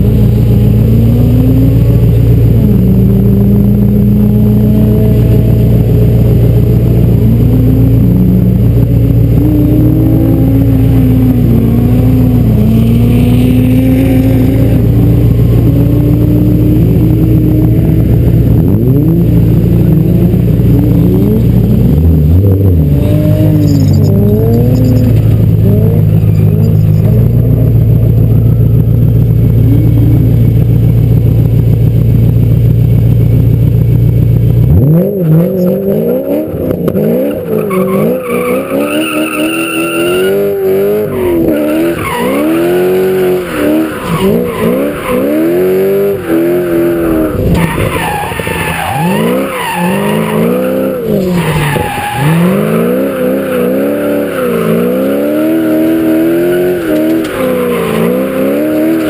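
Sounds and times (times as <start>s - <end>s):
car engine revving: 0.0s - 59.0s
tyres skidding: 0.0s - 59.0s.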